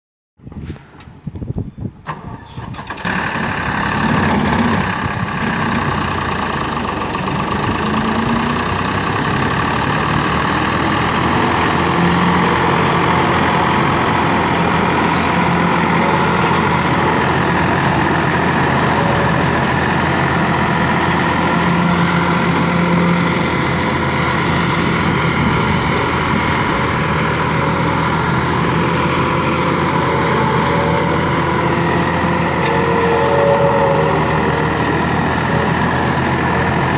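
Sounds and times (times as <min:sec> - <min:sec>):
tractor diesel engine: 0:02.0 - 0:36.9
mulcher shredding straw: 0:03.0 - 0:36.9.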